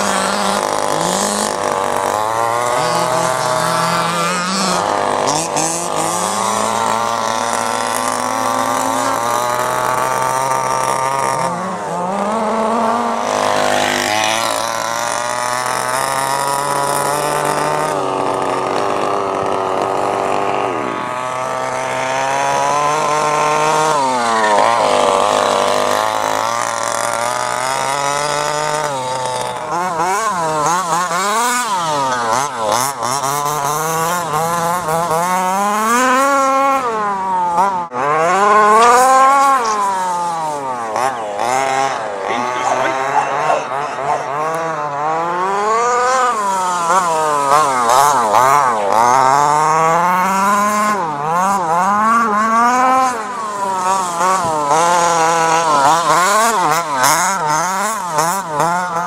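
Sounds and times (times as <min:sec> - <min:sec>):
small two-stroke engine revving: 0:00.0 - 0:59.0.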